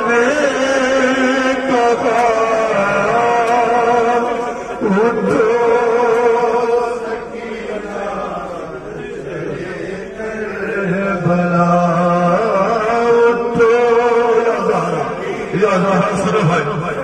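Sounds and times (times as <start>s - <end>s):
man singing a lament: 0.0s - 17.0s.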